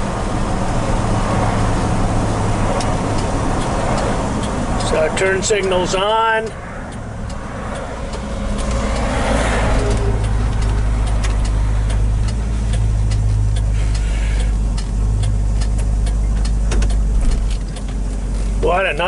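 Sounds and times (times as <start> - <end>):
truck engine rumbling: 0.0 - 19.0
turn signal clicking: 2.6 - 19.0.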